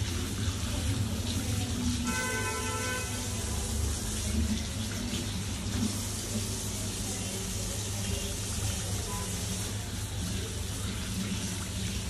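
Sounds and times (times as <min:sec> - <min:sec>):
kitchen tap running: 0:00.0 - 0:12.0.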